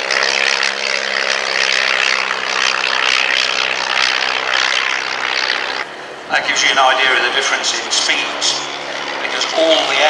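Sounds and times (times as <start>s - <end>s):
propeller aircraft engine drone: 0.0s - 10.0s.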